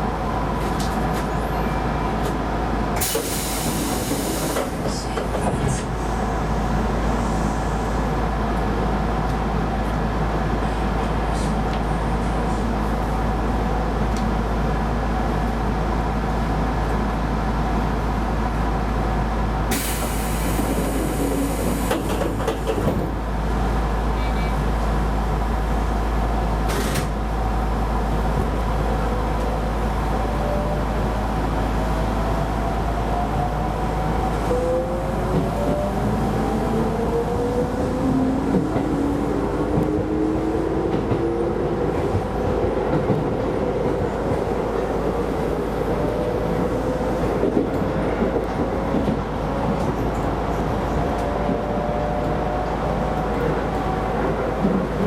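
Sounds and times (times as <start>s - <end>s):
constant train whine: 0.0s - 55.0s
train wheels rumbling on rail: 0.0s - 55.0s.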